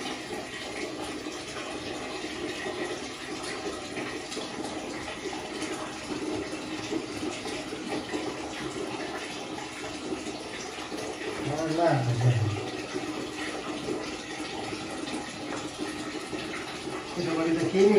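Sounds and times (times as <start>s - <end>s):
water running and splashing: 0.0s - 17.9s.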